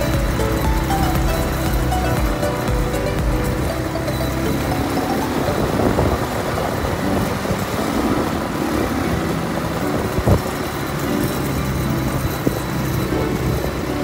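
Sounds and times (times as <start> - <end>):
quad bike engines running: 0.0 - 14.0.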